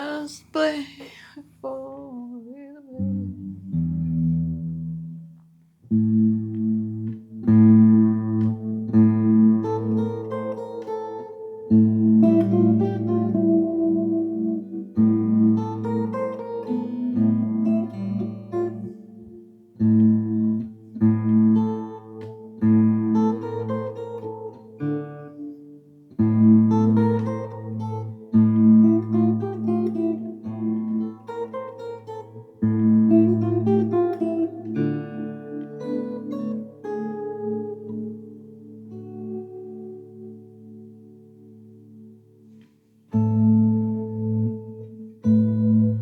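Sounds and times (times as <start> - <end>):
guitar chords strummed and picked: 2.9 - 46.0.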